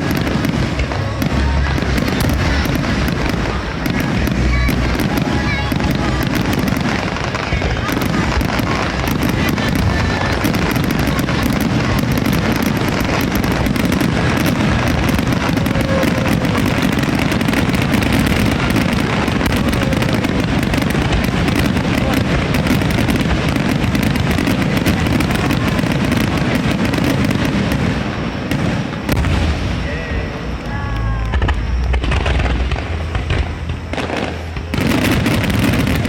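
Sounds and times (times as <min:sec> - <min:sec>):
crowd voices: 0:00.0 - 0:36.0
fireworks bursting and crackling: 0:00.0 - 0:36.0.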